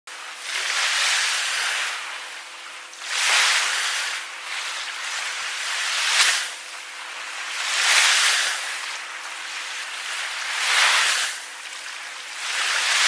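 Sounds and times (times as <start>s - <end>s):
ocean waves washing: 0.1s - 13.0s.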